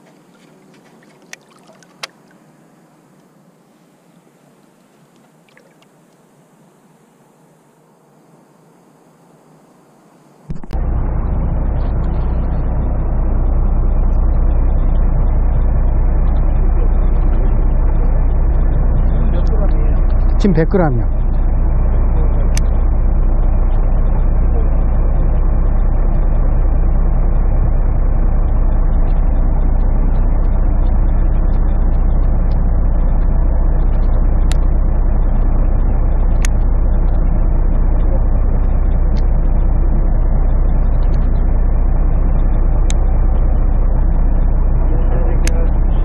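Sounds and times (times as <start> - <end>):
boat engine rumbling: 0.0 - 7.7, 10.0 - 46.0.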